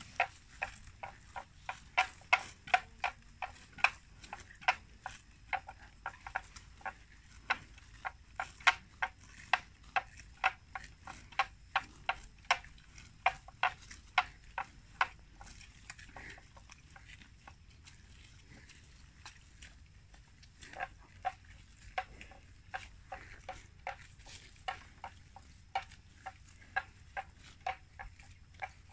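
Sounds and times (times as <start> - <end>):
grass being torn and chewed: 0.0 - 28.9.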